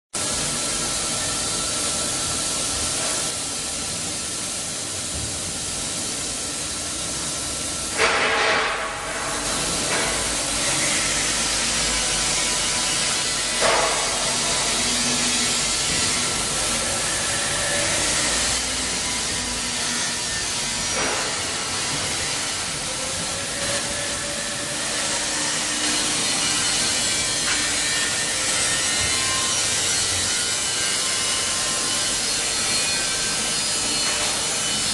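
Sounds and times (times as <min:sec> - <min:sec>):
milling machine hiss and hum: 0:00.2 - 0:34.9.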